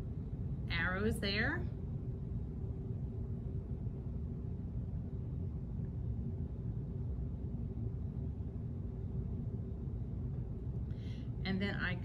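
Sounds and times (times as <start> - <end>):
faint steady hum: 0.0 - 12.0
low background rumble: 0.0 - 12.0.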